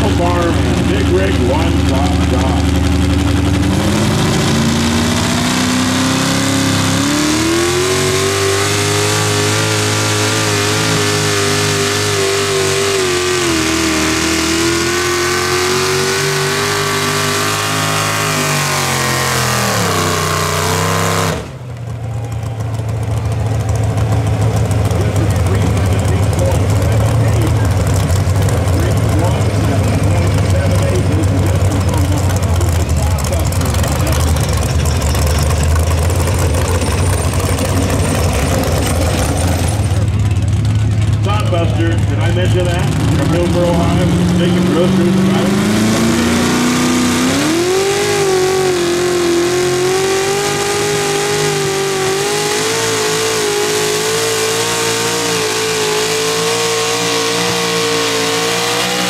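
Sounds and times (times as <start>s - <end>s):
tractor engine at high revs: 0.0s - 59.0s.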